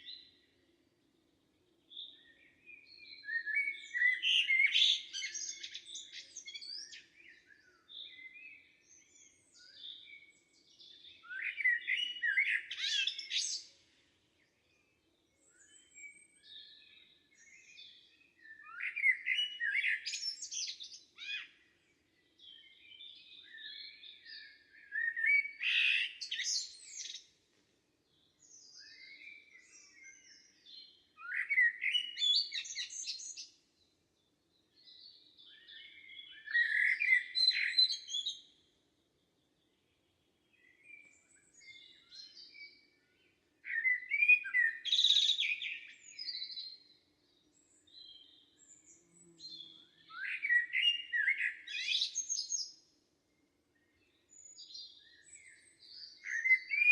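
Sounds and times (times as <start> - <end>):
songbirds singing: 0.0 - 56.9
soft bird chirps: 1.8 - 27.5, 28.1 - 56.9.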